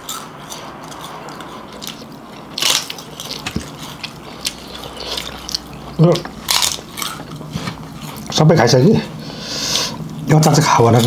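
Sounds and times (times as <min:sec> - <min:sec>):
crunchy chewing and biting: 0:00.0 - 0:11.0.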